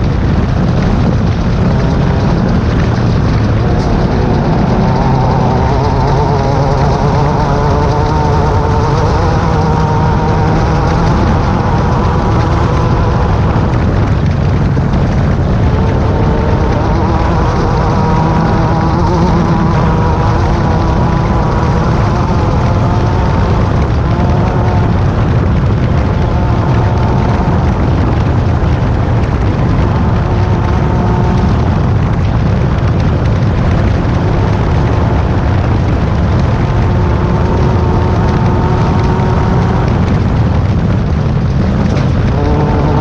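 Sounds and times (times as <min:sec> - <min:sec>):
buggy engine running under load: 0:00.0 - 0:43.0
loud low rumble: 0:00.0 - 0:43.0.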